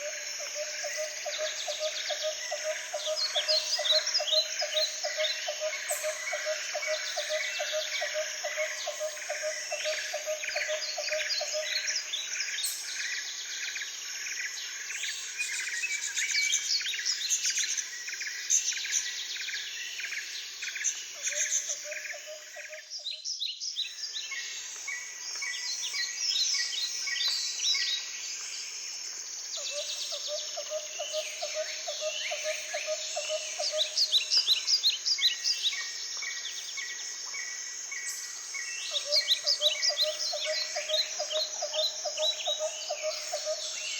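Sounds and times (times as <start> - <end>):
forest birds chirping: 0.0 - 43.9.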